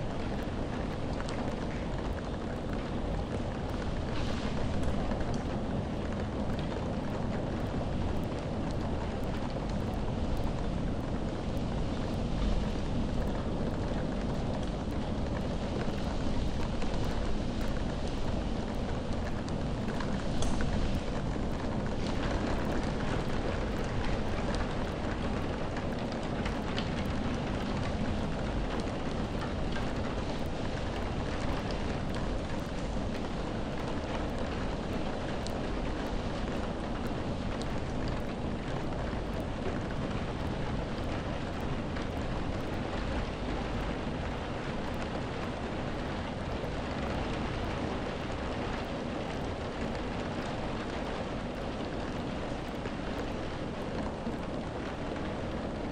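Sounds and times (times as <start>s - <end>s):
raindrop ticks: 0.0s - 55.9s
steady rainfall: 0.0s - 55.9s.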